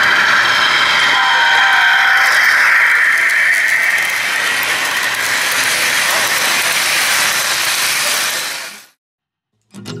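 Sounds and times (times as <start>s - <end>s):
model train wheels on rails: 0.0s - 9.0s.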